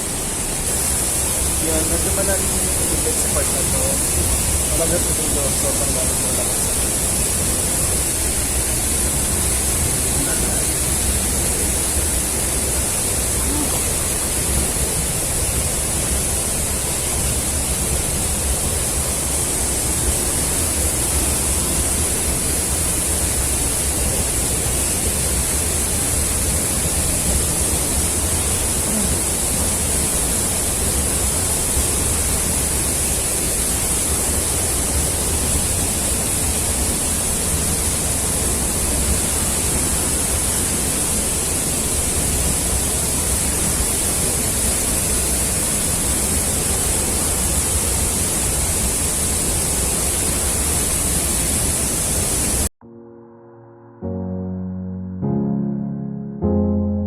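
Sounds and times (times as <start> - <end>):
waterfall and river rushing: 0.0 - 52.7.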